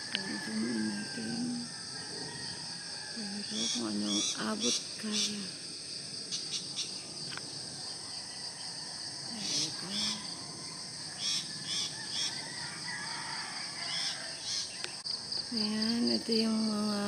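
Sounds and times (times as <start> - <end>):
high-pitched insect chorus: 0.0 - 17.0
short insect calls: 0.0 - 17.0.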